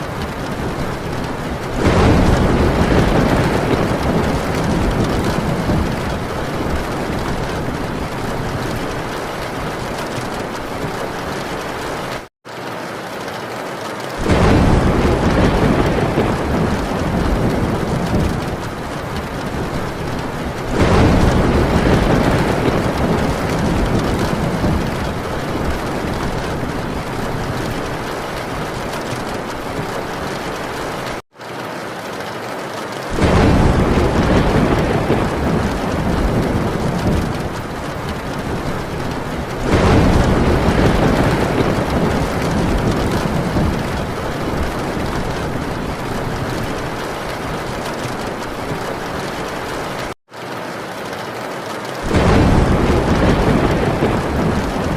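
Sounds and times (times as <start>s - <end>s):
rolling thunder: 0.0s - 12.3s, 14.2s - 31.2s, 33.1s - 50.2s, 52.0s - 54.9s
heavy rain on a tin roof: 0.0s - 54.9s.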